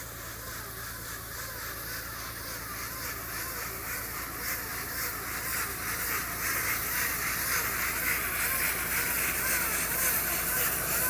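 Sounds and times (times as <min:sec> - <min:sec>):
repeating mechanical sound: 0:00.0 - 0:11.0.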